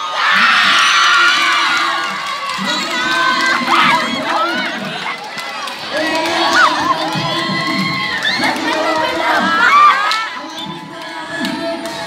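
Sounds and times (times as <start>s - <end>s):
crowd cheering and shouting: 0.0s - 12.0s.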